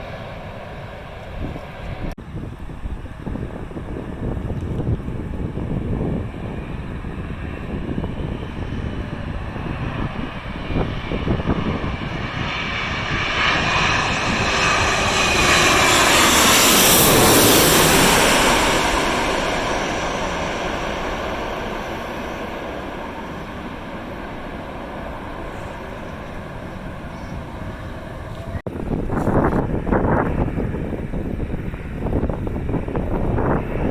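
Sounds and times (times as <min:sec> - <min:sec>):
airliner passing overhead: 0:00.0 - 0:33.9
wind buffeting microphone: 0:00.0 - 0:33.9.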